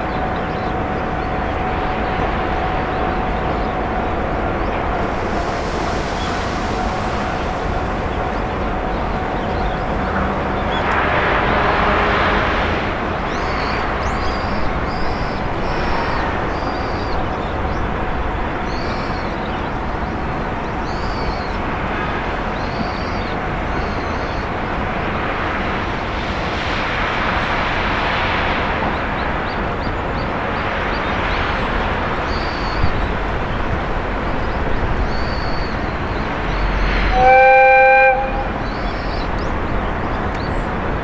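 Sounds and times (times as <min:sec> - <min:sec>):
distant freight train rumble: 0:00.0 - 0:41.0
rushing noise: 0:00.0 - 0:41.0.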